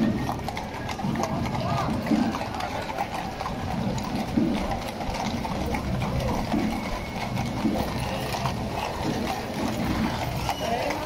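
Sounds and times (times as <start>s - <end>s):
crowd chatter: 0.0s - 11.0s
horse hooves clip-clopping: 0.0s - 11.0s.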